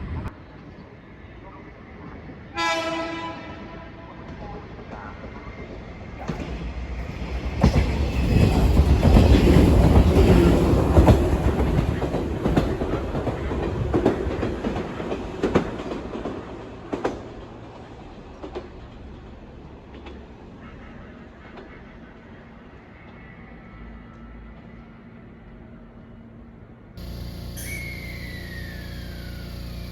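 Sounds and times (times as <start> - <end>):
train rumbling past: 0.0 - 29.9.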